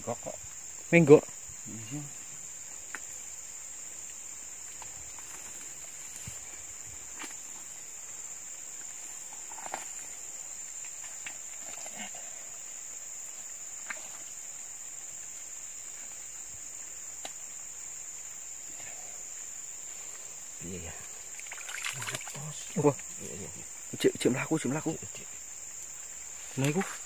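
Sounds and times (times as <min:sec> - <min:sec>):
faint ticks and rustles: 0:00.0 - 0:27.0
insects droning: 0:00.0 - 0:27.0.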